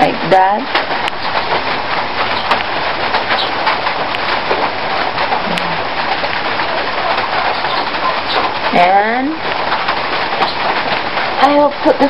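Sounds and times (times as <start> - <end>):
steady rain pattering: 0.0 - 12.0.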